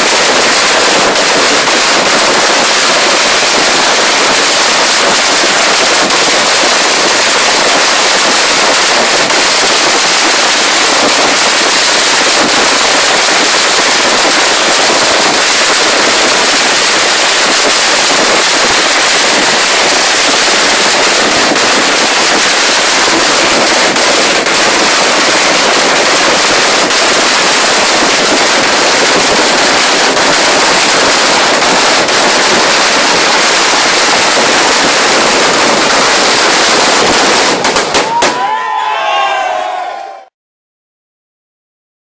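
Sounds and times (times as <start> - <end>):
firecrackers crackling: 0.0 - 40.3.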